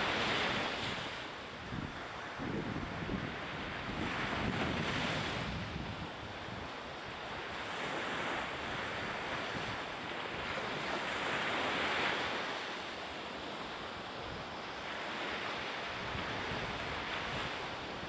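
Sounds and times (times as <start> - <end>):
wind buffeting microphone: 0.0 - 12.3, 13.6 - 18.0
choppy sea water: 0.0 - 18.0.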